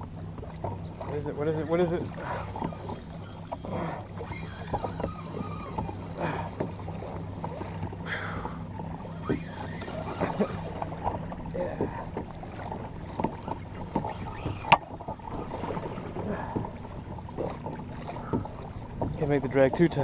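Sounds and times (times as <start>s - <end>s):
steady low hum: 0.0s - 20.0s
water slapping against hull: 0.0s - 20.0s.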